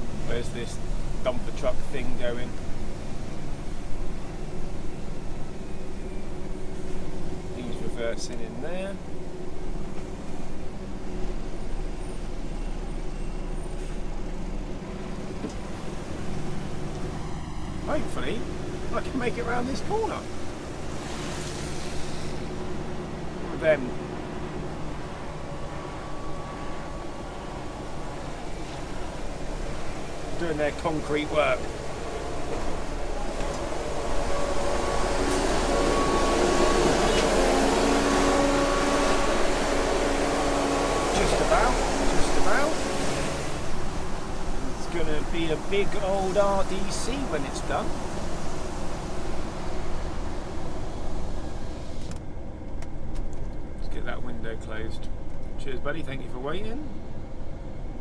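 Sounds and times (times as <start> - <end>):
truck diesel engine hum: 0.0 - 58.0.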